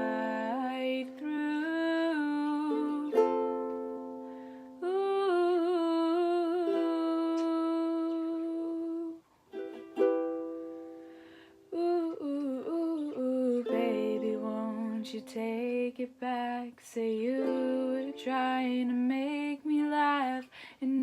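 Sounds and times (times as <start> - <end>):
person singing long notes: 0.0 - 3.7, 4.8 - 9.2, 11.7 - 21.0
ukulele strum: 0.0 - 15.9, 17.2 - 19.5.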